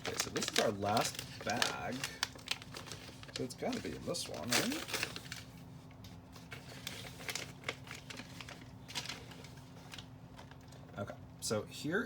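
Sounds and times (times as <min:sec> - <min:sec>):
plastic bag rustling: 0:00.0 - 0:11.1.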